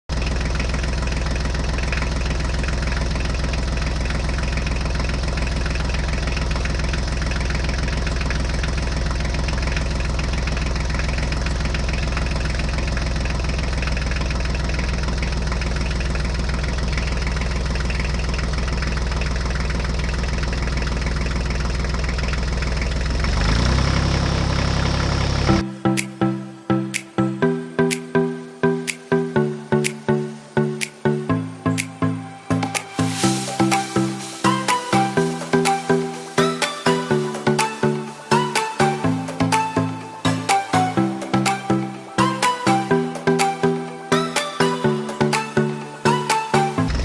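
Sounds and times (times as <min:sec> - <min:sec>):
tractor engine idling and revving: 0:00.0 - 0:47.0.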